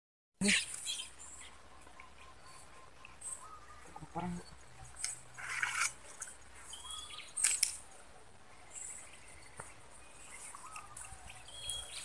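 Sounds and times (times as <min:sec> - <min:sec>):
bird chirps: 0:00.4 - 0:05.9, 0:06.6 - 0:08.0, 0:08.6 - 0:12.0
rustling of wet grass: 0:00.5 - 0:12.0.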